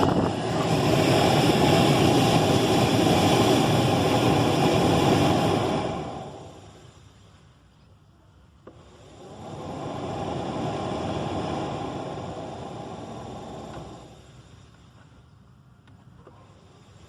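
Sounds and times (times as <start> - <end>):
car heater blower fan: 0.0 - 17.0.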